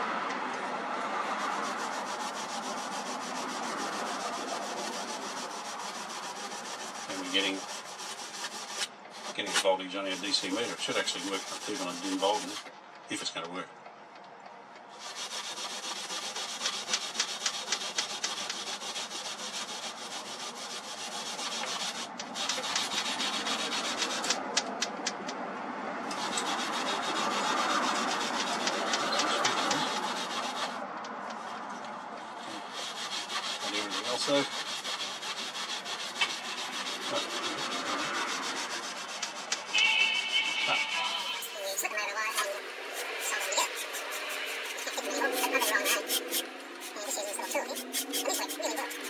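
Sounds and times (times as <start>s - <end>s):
wire wool scrubbing wood: 1.2s - 12.7s, 14.9s - 25.0s, 26.0s - 49.0s.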